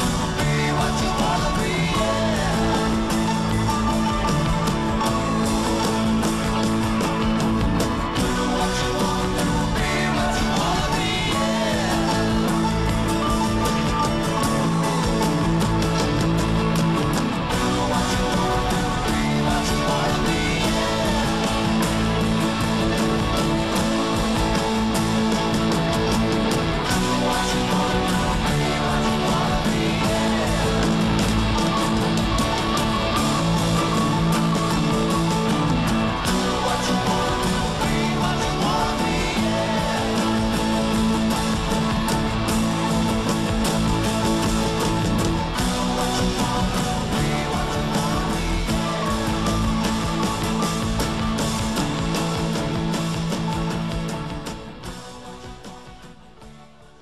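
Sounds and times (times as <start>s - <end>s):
rock music with guitars: 0.0s - 57.0s.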